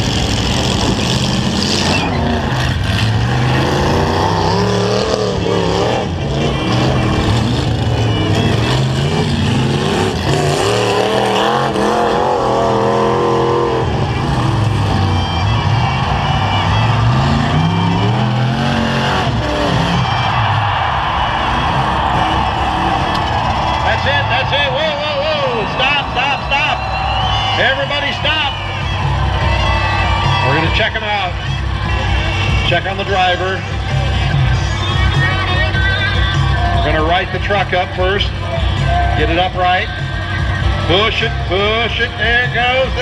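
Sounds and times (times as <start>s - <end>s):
truck engines revving hard: 0.0s - 43.0s.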